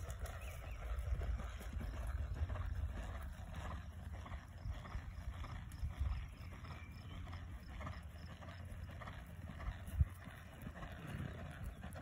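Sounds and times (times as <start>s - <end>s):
horse hoofbeats on grass: 0.0s - 12.0s
wind rumble on microphone: 0.0s - 12.0s.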